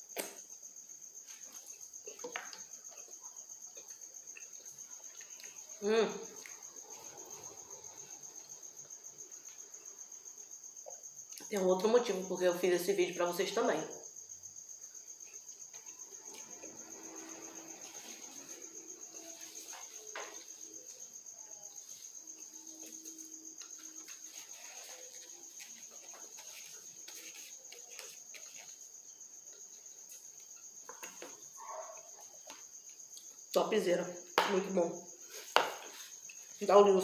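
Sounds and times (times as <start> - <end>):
pulsing insect trill: 0.0 - 37.0.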